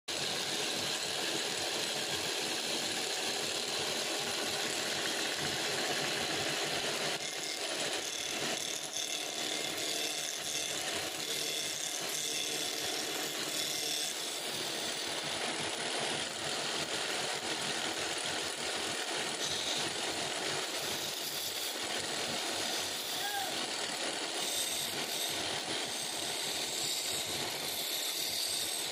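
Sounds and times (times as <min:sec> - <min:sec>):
wood lathe cutting wood: 0:00.1 - 0:28.9.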